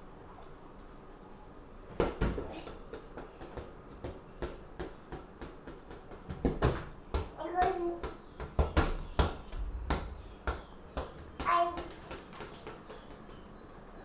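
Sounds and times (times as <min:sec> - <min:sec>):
ball bouncing on floor: 0:01.9 - 0:13.5.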